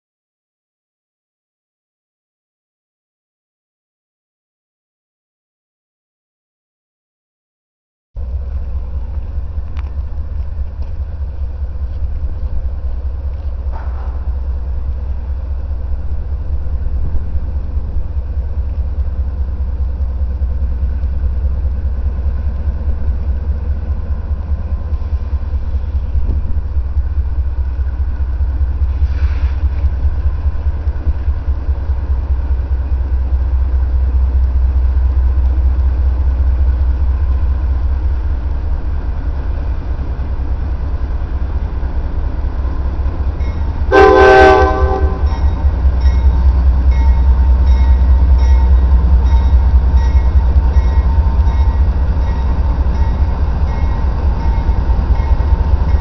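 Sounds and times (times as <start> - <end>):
diesel locomotive engine rumble: 8.2 - 56.0.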